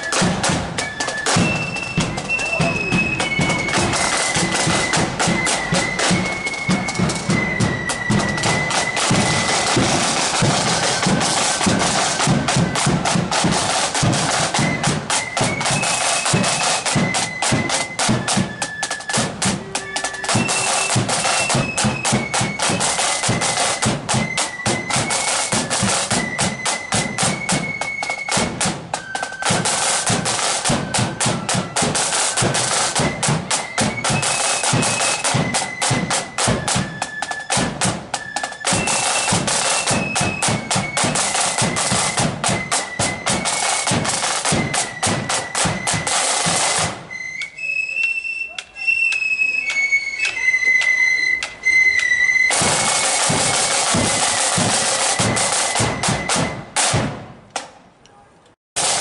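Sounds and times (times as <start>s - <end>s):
snare drum rolls: 0.0s - 47.6s, 49.1s - 57.8s, 58.8s - 59.0s
flutes playing melody: 0.0s - 57.0s.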